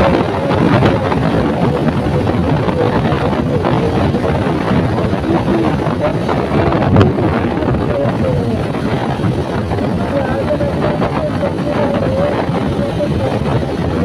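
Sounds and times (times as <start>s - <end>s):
motorcycle engine and wind rush: 0.0s - 14.0s.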